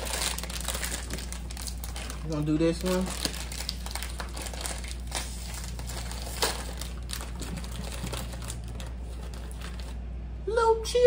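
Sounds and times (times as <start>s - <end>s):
plastic snack bag crinkling: 0.0s - 10.0s.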